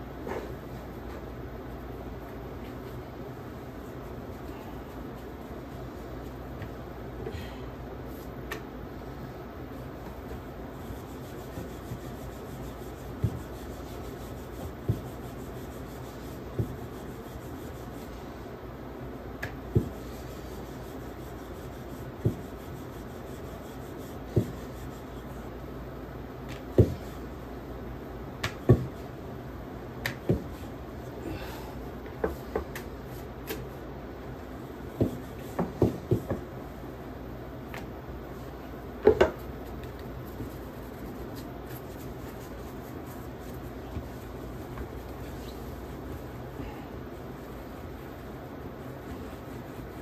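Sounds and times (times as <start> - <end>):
rolling pin rubbing on dough: 2.2 - 6.9, 9.2 - 27.7, 28.4 - 29.4, 30.0 - 36.9, 39.2 - 50.0.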